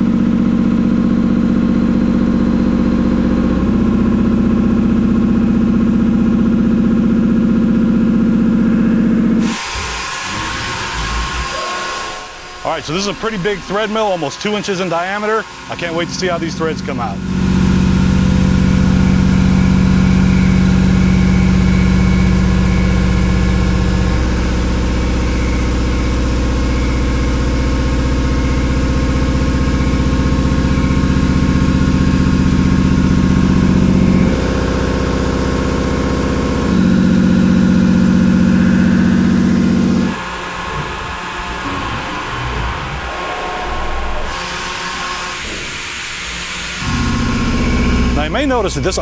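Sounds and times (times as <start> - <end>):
thread mill machining hum: 0.0 - 49.0.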